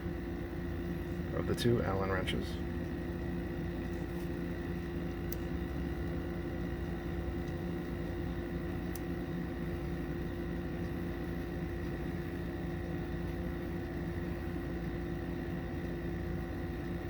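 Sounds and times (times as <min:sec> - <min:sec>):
mechanical room hum: 0:00.0 - 0:17.0.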